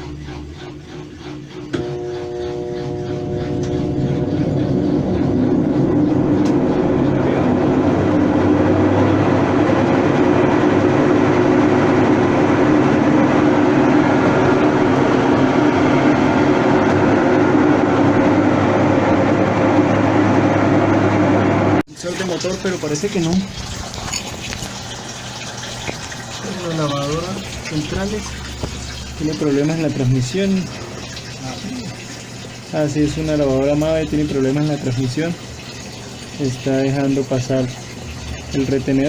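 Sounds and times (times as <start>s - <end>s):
washing machine spinning: 0.0s - 39.0s.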